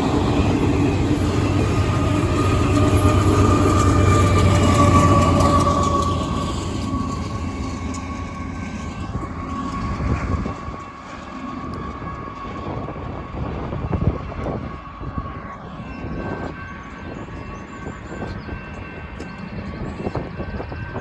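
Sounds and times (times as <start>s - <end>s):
freight train rumbling past: 0.0s - 21.0s
high ringing tone: 0.0s - 21.0s.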